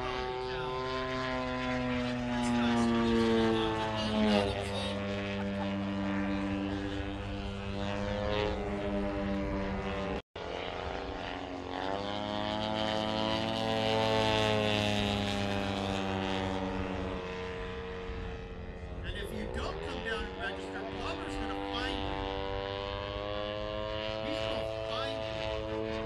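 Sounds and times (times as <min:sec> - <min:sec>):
model airplane engine: 0:00.0 - 0:26.0.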